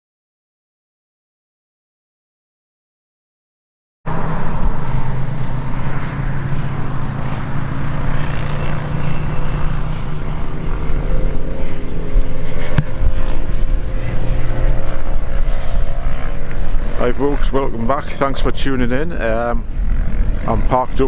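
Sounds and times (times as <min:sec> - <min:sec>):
vehicle engine droning: 0:04.1 - 0:21.0.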